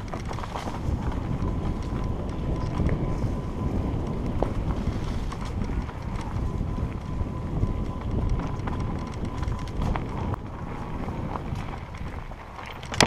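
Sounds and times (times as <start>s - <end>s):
bike rattling and clicking: 0.0s - 13.0s
bike tyres rumbling over dirt: 0.0s - 13.0s
wind on microphone: 0.0s - 13.0s.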